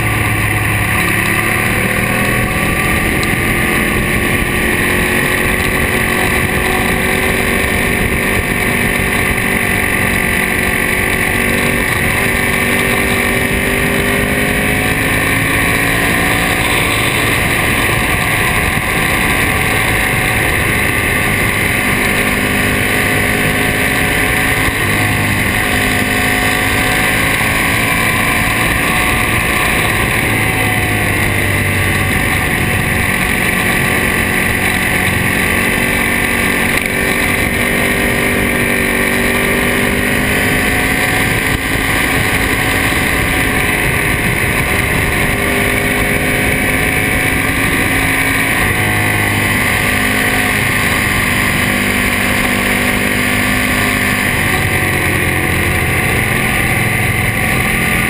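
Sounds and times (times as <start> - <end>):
motorcycle engine at speed: 0.0 - 58.0
wind noise on microphone: 0.0 - 58.0.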